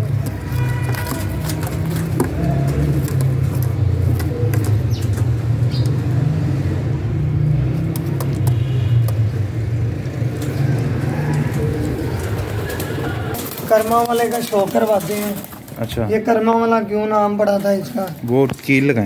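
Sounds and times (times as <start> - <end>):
pigeons cooing: 0.0 - 15.8.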